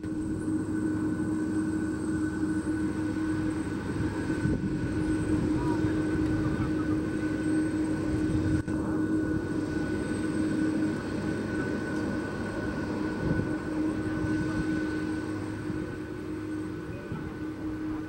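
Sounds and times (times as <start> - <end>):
jet engine whine: 0.0 - 18.0.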